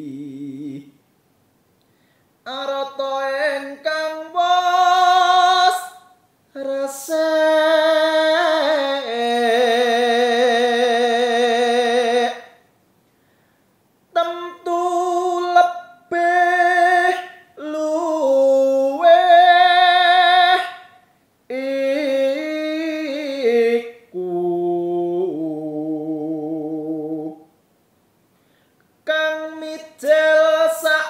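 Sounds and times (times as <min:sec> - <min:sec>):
man singing unaccompanied: 0:00.0 - 0:01.0, 0:02.4 - 0:12.7, 0:14.1 - 0:27.6, 0:29.0 - 0:31.0.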